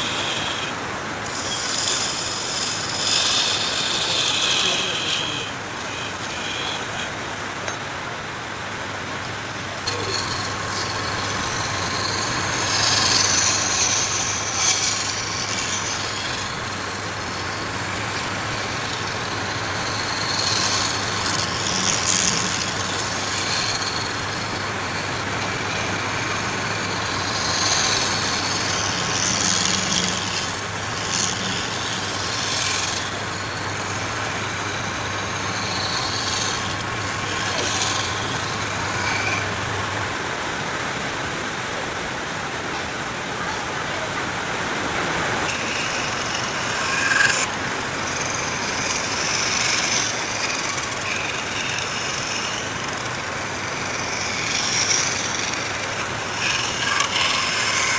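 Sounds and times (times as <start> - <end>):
power tool cutting wood: 0.0 - 7.8, 9.0 - 40.6, 43.5 - 57.9
power tool motor running: 0.0 - 40.8, 44.2 - 57.9.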